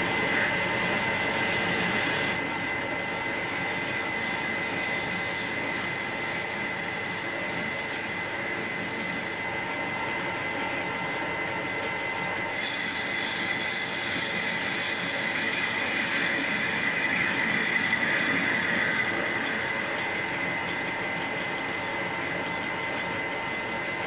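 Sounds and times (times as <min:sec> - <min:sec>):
metal lathe whining: 0:00.0 - 0:24.0.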